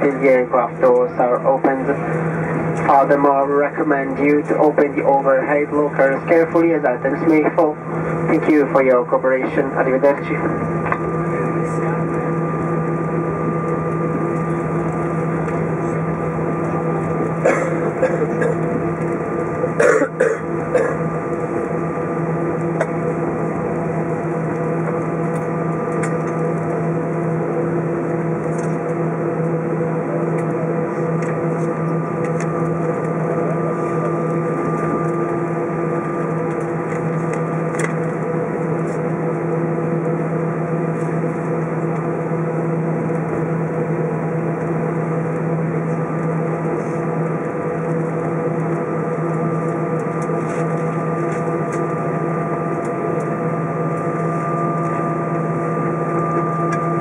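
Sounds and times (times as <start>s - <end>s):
aircraft cabin hum: 0.0s - 57.0s.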